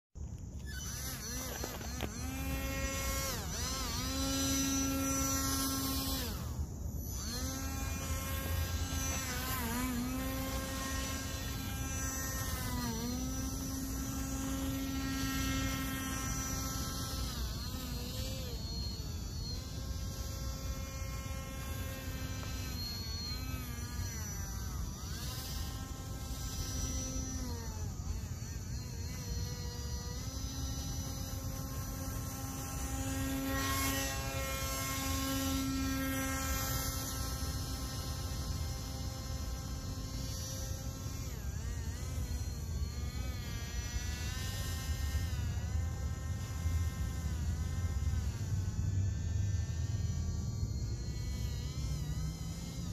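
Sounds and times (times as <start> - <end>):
electric motor and propeller whine: 0.2 - 52.9.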